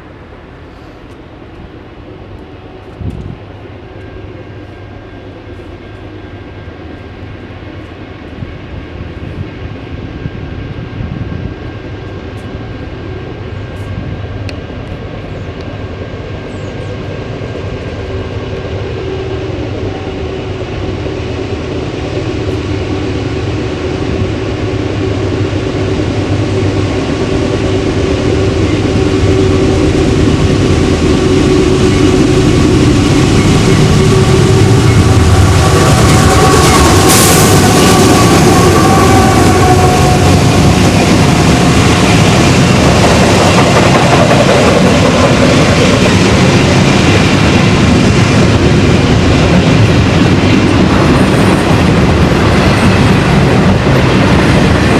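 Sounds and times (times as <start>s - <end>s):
diesel train engine rumble: 0.0s - 54.9s.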